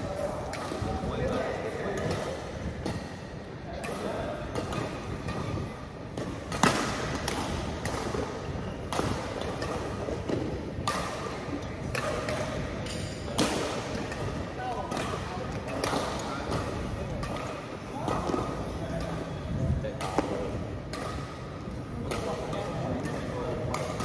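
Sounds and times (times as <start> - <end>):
rackets hitting shuttlecock: 0.0 - 24.0.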